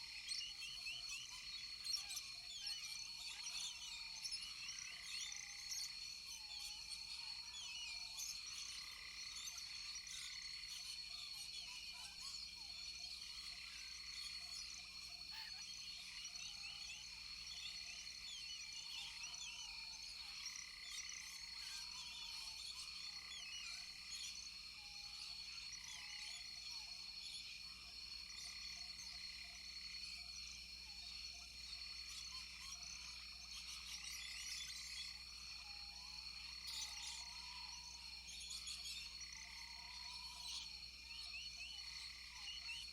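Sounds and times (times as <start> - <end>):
frogs chirping: 0.1 - 42.9.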